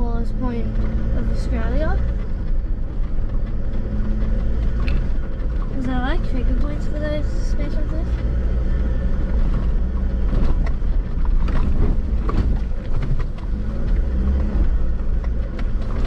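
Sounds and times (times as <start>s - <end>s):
engine and road rumble: 0.0s - 16.0s
knocks and rattles: 0.0s - 16.0s.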